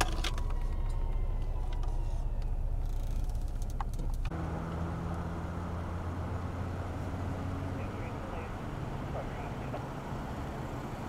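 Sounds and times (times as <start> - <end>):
car cabin road noise: 0.0 - 11.0.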